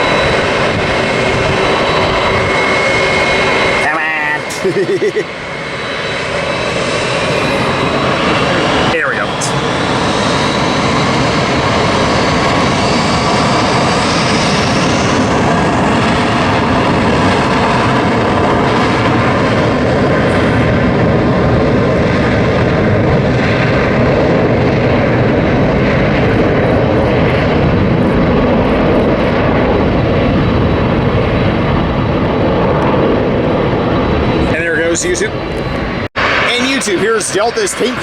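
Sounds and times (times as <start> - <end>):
high engine whine: 0.0 - 38.0
jet engines roaring: 0.0 - 38.0.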